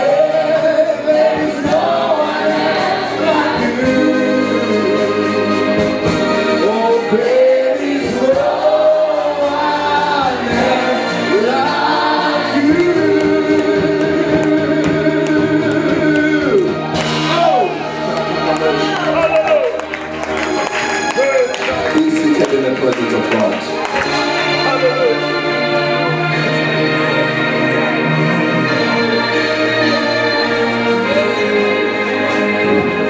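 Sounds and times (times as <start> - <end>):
group singing gospel song: 0.0 - 19.2, 24.0 - 33.0
sustained instrumental backing: 0.0 - 33.0.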